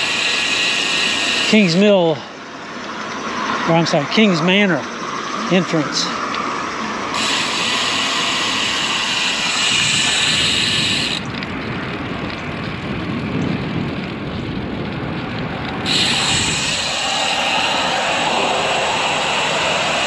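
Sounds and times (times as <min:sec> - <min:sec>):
bike tyres on concrete: 0:00.0 - 0:20.0
wind over microphone: 0:00.0 - 0:20.0.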